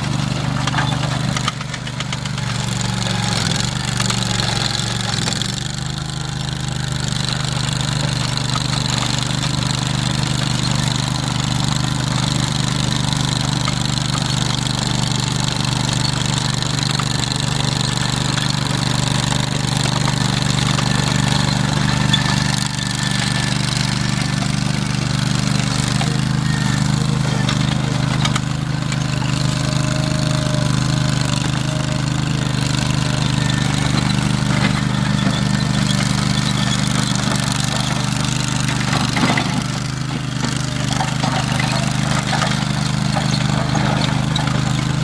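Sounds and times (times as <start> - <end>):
engine running steadily: 0.0 - 45.0.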